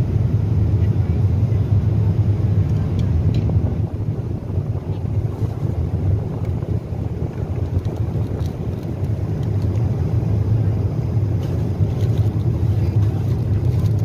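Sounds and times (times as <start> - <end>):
airliner cabin roar: 0.0 - 14.0.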